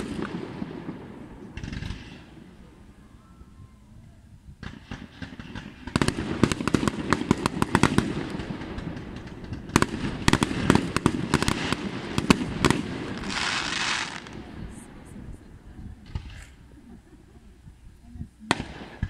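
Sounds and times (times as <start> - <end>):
fireworks bangs and crackles: 0.0 - 3.0, 4.4 - 19.0.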